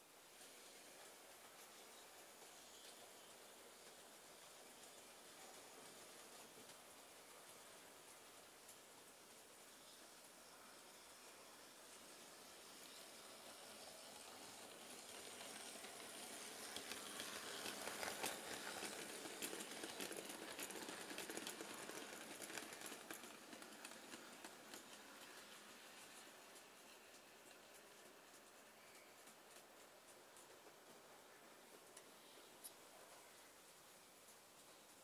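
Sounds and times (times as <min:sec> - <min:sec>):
wheels clicking on rails: 0:00.2 - 0:35.0
model train motor running: 0:00.3 - 0:32.2.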